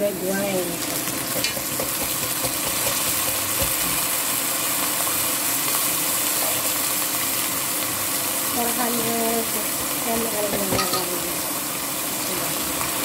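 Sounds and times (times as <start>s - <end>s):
wine sizzling on hot onions: 0.0s - 13.0s.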